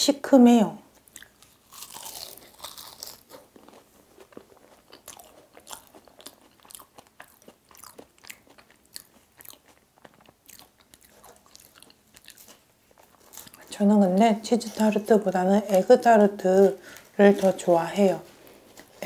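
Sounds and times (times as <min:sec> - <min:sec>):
crunching flaky pastry: 0:00.9 - 0:19.0.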